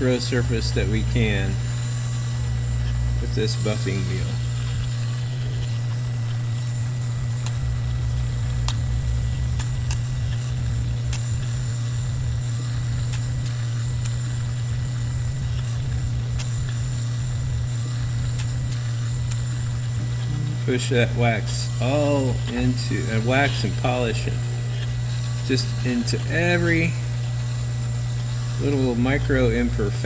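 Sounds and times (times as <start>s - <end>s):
rotary tool humming and whining: 0.0s - 30.0s.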